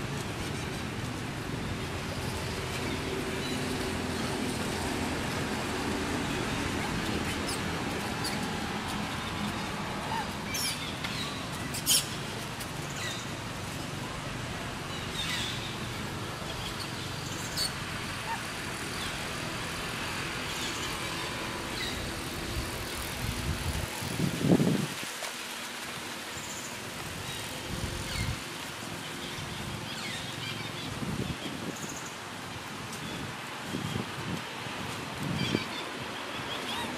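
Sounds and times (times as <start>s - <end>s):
outdoor background noise: 0.0s - 36.9s.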